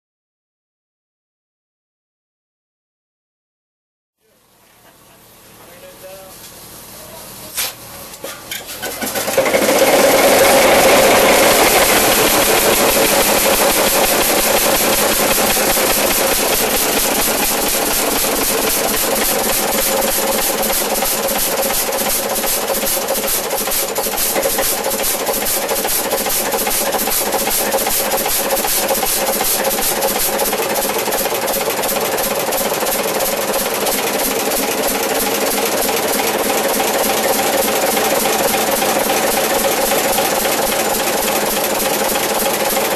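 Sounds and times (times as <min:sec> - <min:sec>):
diesel generator engine running: 0:04.3 - 0:42.9.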